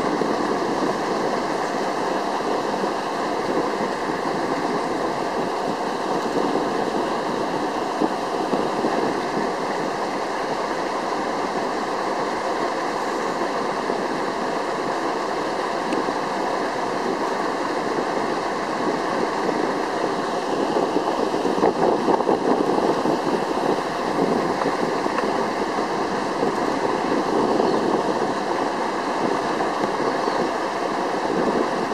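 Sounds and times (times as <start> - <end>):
boat rushing noise: 0.0 - 31.9
water washing along hull: 0.0 - 31.9.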